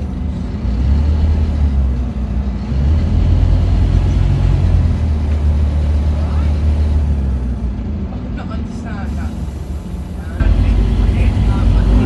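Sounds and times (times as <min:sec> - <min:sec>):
bus diesel engine drone: 0:00.0 - 0:12.0.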